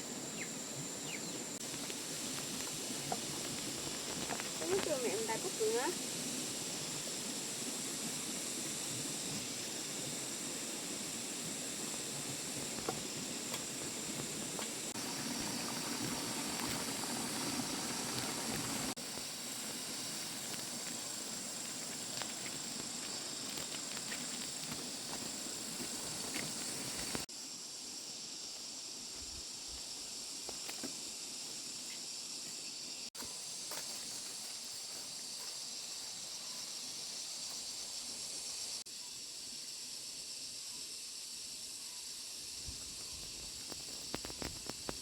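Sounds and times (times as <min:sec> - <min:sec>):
outdoor background hiss: 0:00.0 - 0:45.0.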